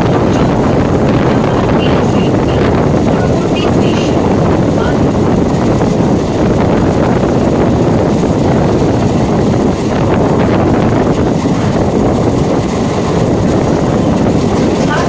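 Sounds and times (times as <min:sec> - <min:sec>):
train running noise on board: 0:00.0 - 0:15.0
wind buffeting microphone: 0:00.0 - 0:15.0.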